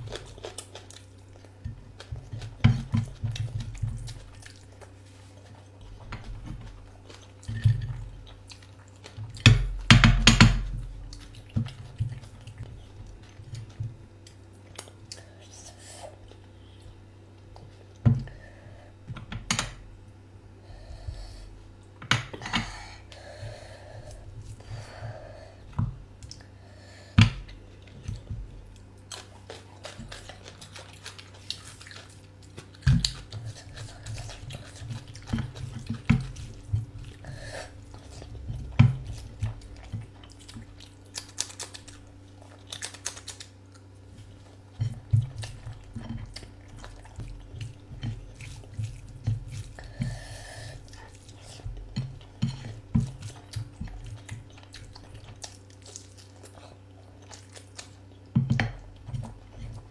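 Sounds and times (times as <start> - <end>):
chewing and wet mouth sounds: 0.0 - 18.5, 20.8 - 59.9
low steady hum: 0.0 - 59.9.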